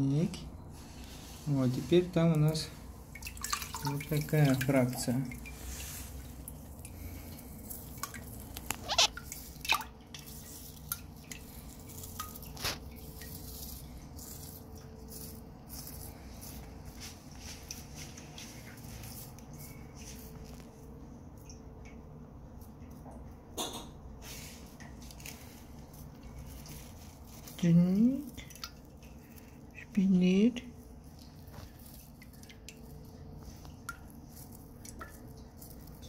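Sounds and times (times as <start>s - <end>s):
water dripping: 1.8s - 36.0s.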